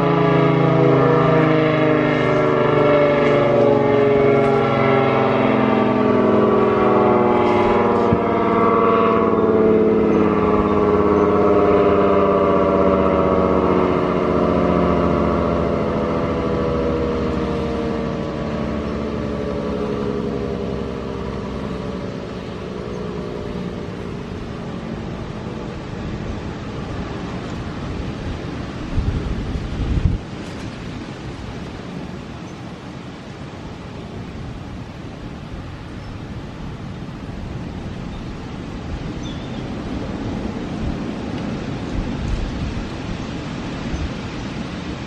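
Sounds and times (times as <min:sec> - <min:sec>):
warning siren winding down: 0:00.0 - 0:45.0
wind buffeting microphone: 0:00.0 - 0:45.0.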